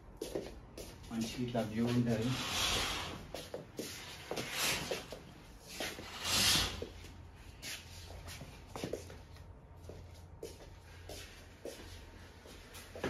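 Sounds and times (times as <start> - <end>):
scuffing and rustling of movement: 0.0 - 6.1, 6.8 - 13.0.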